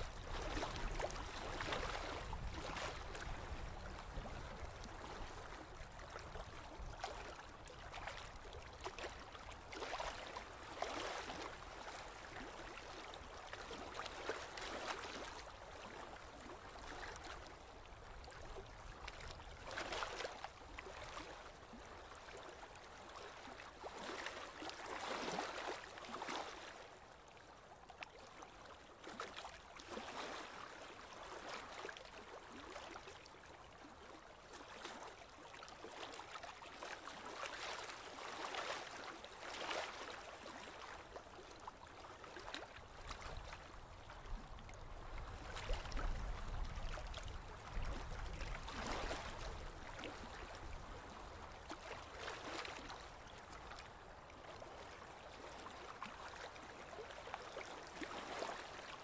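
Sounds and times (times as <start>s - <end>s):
water lapping against boat hull: 0.0s - 59.0s.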